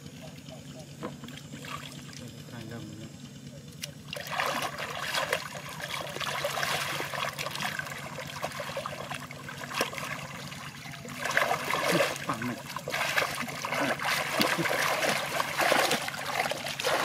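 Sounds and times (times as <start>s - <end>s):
muddy water splashing: 0.1s - 2.7s, 3.7s - 17.0s.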